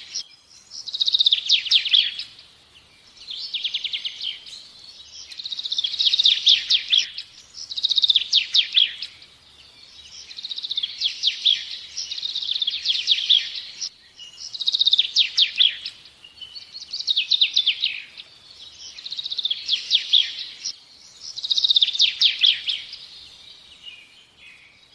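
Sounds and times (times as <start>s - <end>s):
songbird trilling: 0.0s - 24.9s.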